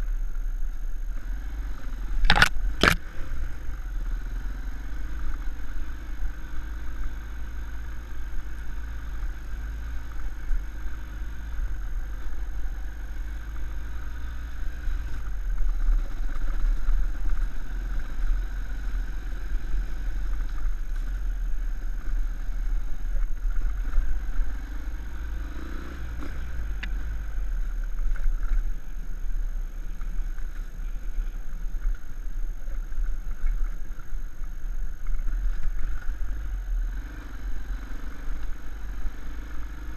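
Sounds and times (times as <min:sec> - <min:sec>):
small motorcycle engine running: 0:00.0 - 0:39.9.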